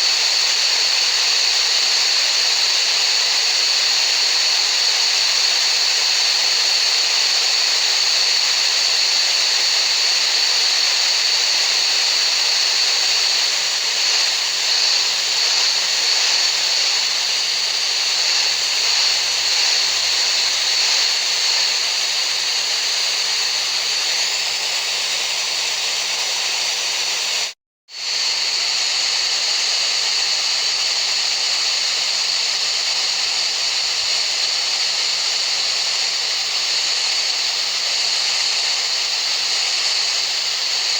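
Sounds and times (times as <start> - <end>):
high-pitched hiss: 0.0 - 40.9.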